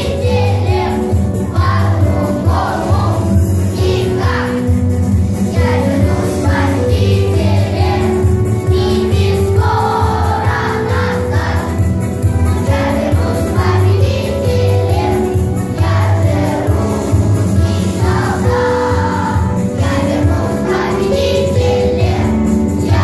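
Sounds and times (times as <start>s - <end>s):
children's choir singing: 0.0s - 23.0s
instrumental accompaniment: 0.0s - 23.0s.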